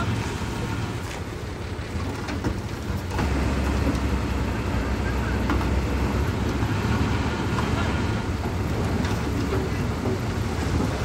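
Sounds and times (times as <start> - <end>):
heavy diesel engine rumbling: 0.0 - 11.0.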